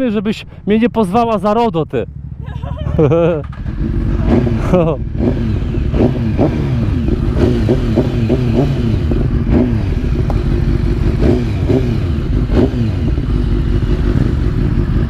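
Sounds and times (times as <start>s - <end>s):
motorcycle engine revving: 2.0s - 15.0s.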